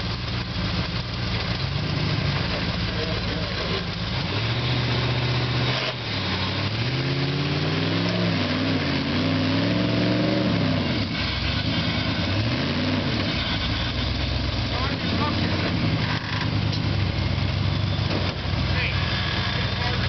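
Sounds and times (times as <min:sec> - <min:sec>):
buggy engine revving: 0:00.0 - 0:20.0.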